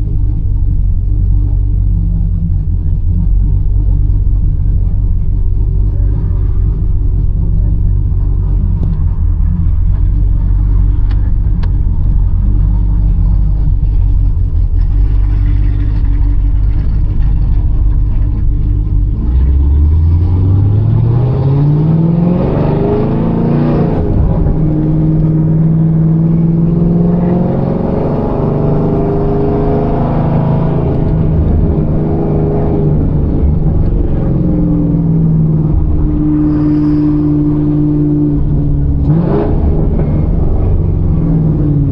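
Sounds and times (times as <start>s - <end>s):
car engine rumbling and accelerating: 0.0s - 41.9s.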